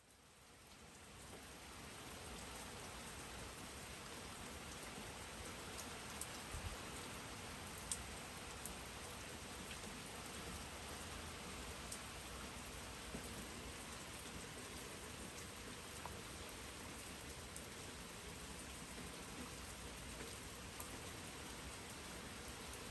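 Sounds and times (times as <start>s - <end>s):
rain falling: 0.1s - 22.9s.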